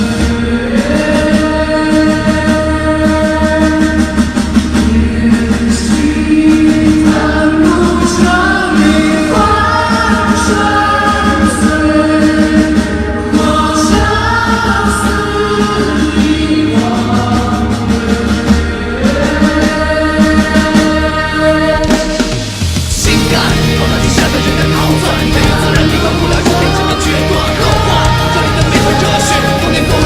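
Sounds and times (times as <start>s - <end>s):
choir-like held vocals: 0.0s - 30.0s
live pop-rock music: 0.0s - 30.0s
pulsing beat: 0.0s - 30.0s.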